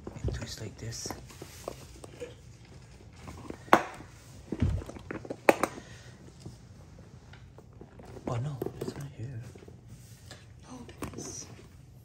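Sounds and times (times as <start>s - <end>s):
handling noise: 0.0s - 10.3s.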